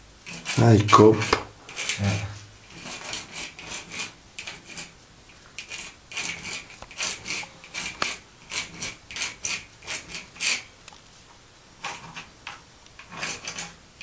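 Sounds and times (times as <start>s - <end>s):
drawing tool scratching on wall: 0.2s - 10.7s, 11.8s - 13.8s.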